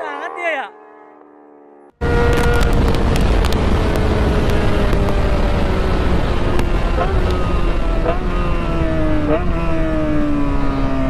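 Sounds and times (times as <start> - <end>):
motorcycle engine slowing: 0.7 - 11.0
wind rush on microphone: 2.0 - 11.0.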